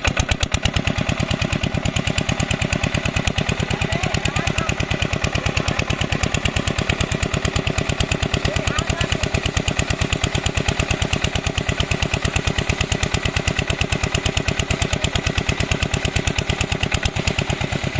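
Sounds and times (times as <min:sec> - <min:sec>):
diesel pump engine running: 0:00.0 - 0:17.9.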